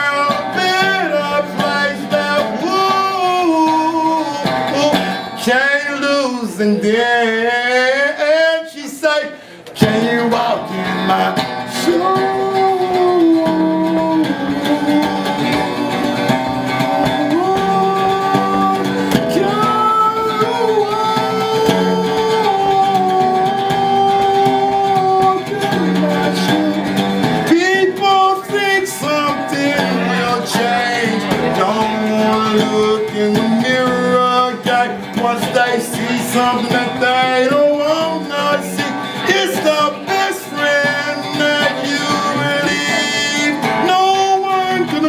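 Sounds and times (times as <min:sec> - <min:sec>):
electric guitar: 0:00.0 - 0:45.0
man singing long notes: 0:00.0 - 0:45.0.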